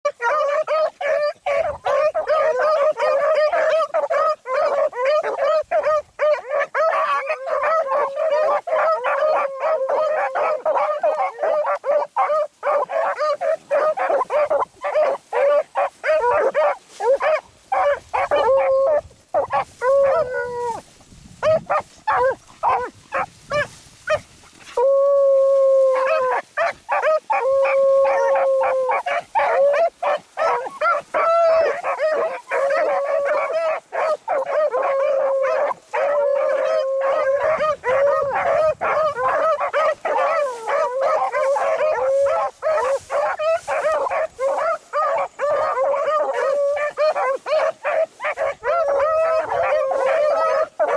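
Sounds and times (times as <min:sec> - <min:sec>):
hounds baying and barking: 0:00.0 - 0:50.9.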